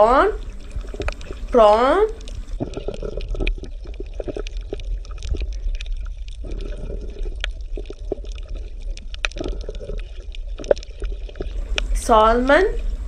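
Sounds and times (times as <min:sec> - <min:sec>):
bubbling gurgling water: 0:00.0 - 0:13.0.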